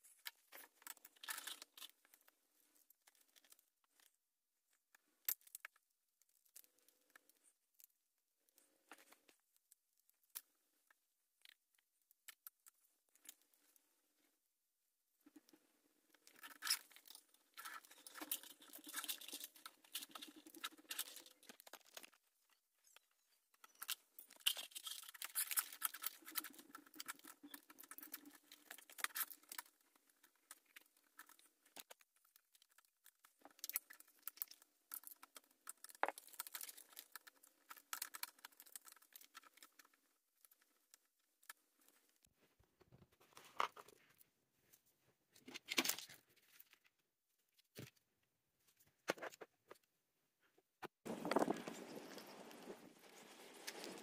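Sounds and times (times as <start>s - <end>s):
hands handling wiring and plastic: 0.0s - 14.3s, 15.2s - 49.9s.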